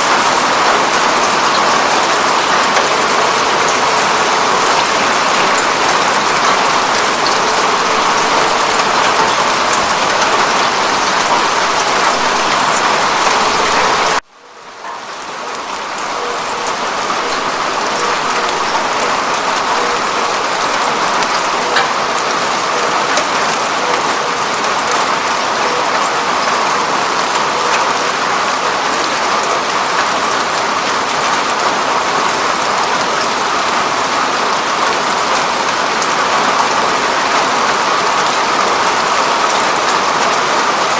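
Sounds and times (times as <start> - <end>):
rain pattering on window: 0.0 - 40.9.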